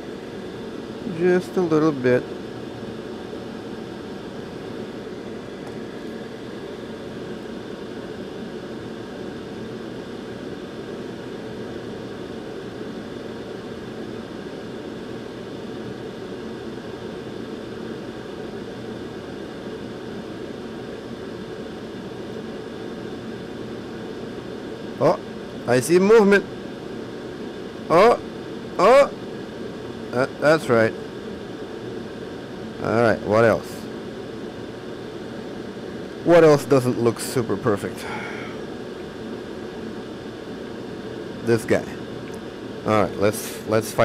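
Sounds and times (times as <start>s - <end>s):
faint hum: 0.0s - 44.0s.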